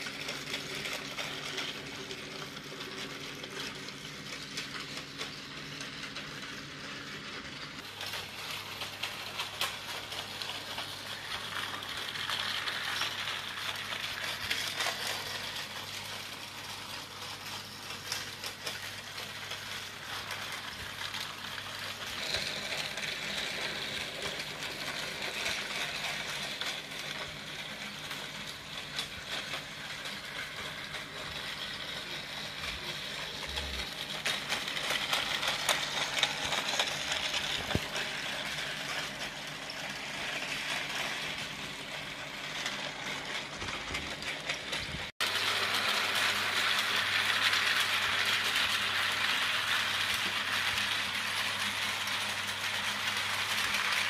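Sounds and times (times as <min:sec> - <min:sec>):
toy train motors whirring: 0:00.0 - 0:54.0
wheels rattling over track: 0:00.0 - 0:54.0.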